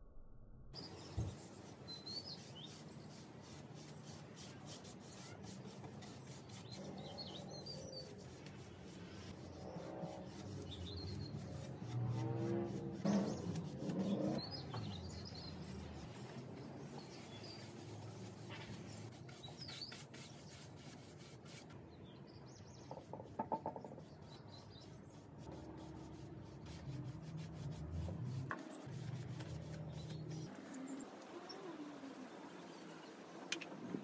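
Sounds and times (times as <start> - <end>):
paintbrush rubbing on wood: 0.9 - 21.7, 22.9 - 30.6.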